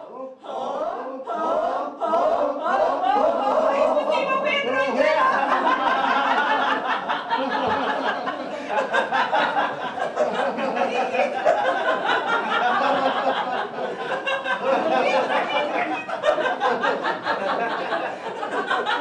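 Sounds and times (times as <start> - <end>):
group of people laughing: 0.4 - 19.0.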